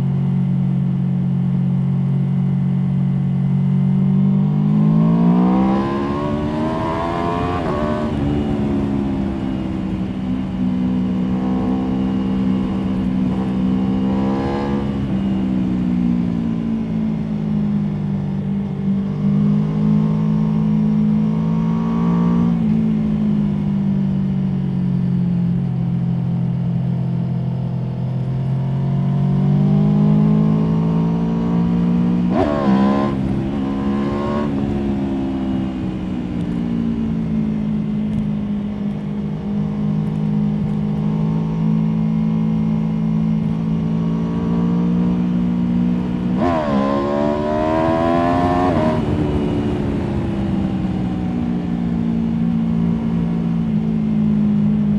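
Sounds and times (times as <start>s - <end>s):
motorcycle engine revving: 2.9s - 23.7s, 26.4s - 54.9s.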